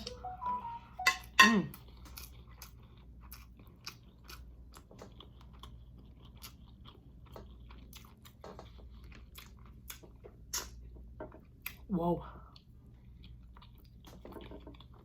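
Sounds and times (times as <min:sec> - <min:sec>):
chewing crispy chicken wings: 0:01.7 - 0:15.0.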